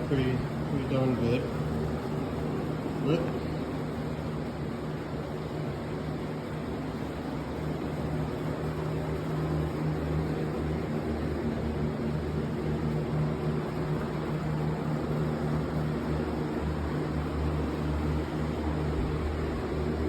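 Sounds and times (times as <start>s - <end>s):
ventilation fan humming: 0.0s - 20.0s.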